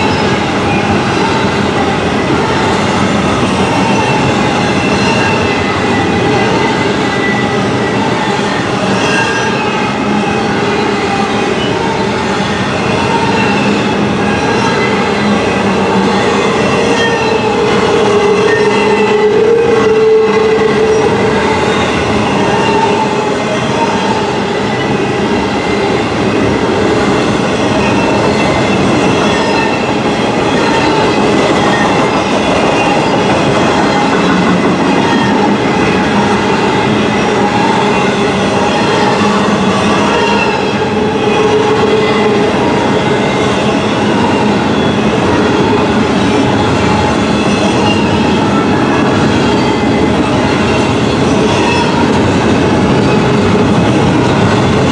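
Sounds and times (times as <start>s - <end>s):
steel wheels on rail: 0.0s - 54.9s.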